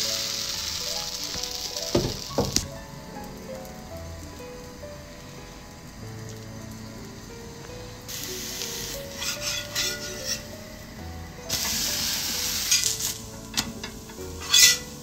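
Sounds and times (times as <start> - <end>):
dosa sizzling on hot iron: 0.0 - 15.0
soft background melody: 0.0 - 15.0.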